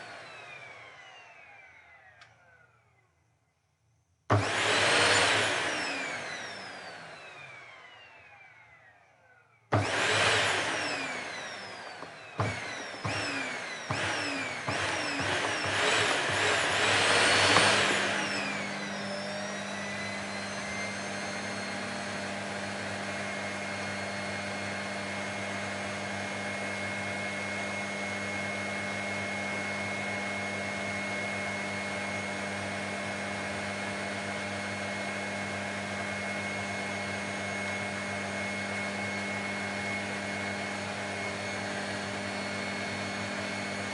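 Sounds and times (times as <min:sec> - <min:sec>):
vacuum cleaner motor whining: 0:00.0 - 0:03.0, 0:04.3 - 0:43.9.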